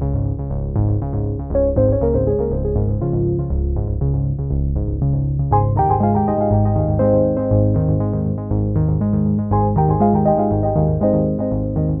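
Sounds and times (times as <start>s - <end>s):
keyboard and synthesizer chords: 0.0s - 12.0s.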